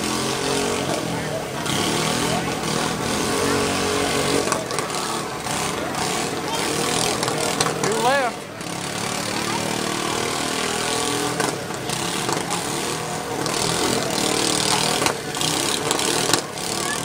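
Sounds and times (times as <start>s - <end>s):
lawn mower engines revving: 0.0s - 17.0s.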